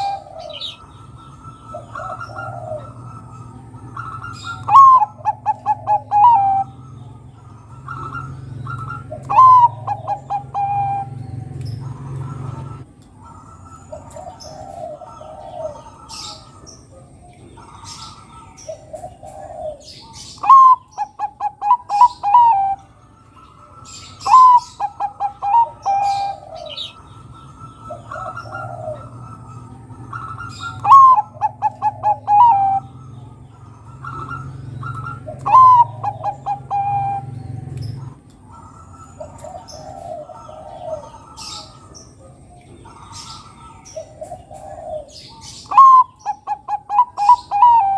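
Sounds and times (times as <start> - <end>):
soft dove coos: 0.0 - 6.7, 7.7 - 22.9, 23.9 - 27.1, 27.8 - 32.9, 33.9 - 47.9
dove cooing song: 0.0 - 47.9.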